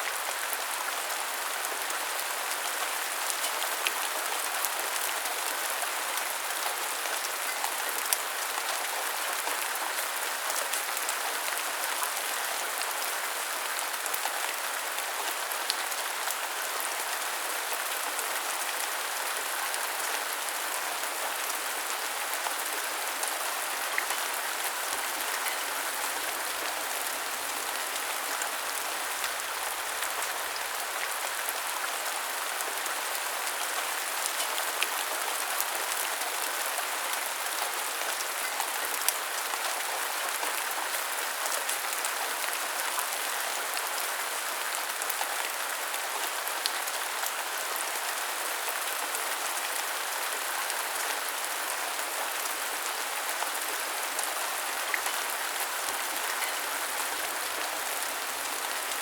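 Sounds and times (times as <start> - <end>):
rain pattering on hard surfaces: 0.1 - 49.2, 50.2 - 59.0.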